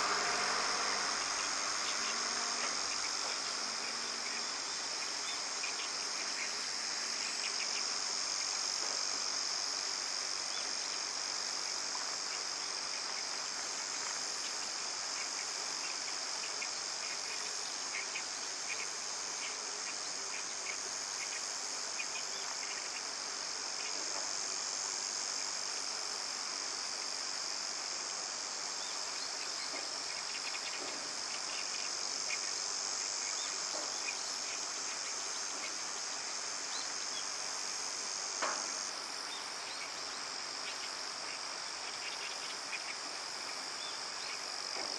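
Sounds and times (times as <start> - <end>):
insects shrilling: 0.0 - 44.9.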